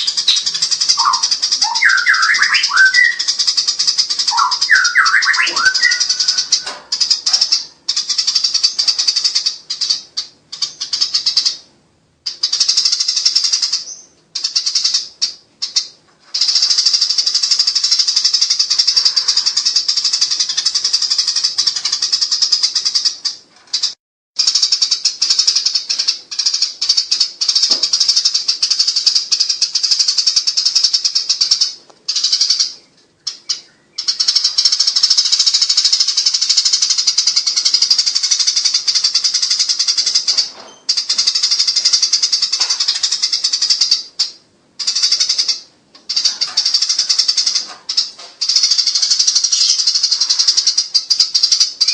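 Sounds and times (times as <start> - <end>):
sparrows chattering: 0.0 - 51.9.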